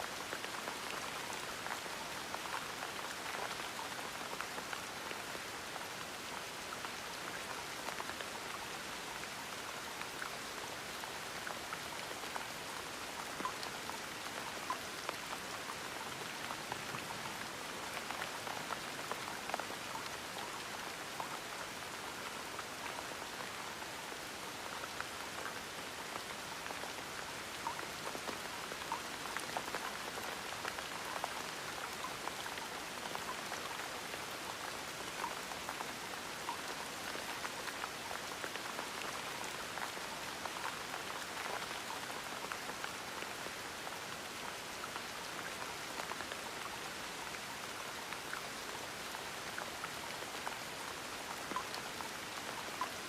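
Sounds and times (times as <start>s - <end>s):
gentle rain falling: 0.0s - 53.0s.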